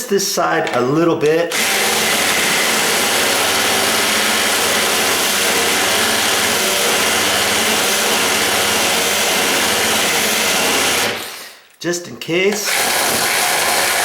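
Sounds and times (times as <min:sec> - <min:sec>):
electric drill reaming metal: 0:01.5 - 0:11.6, 0:12.6 - 0:14.0.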